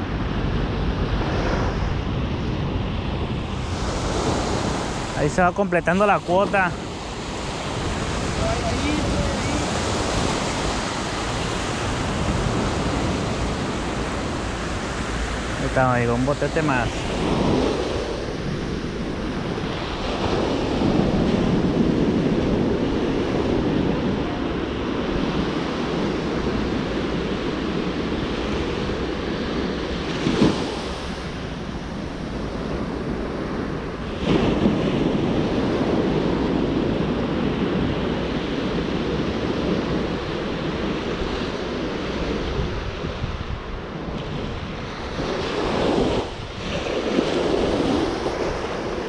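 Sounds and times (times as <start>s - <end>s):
ocean surf washing onto beach: 0.0s - 49.0s
wind buffeting microphone: 0.0s - 49.0s.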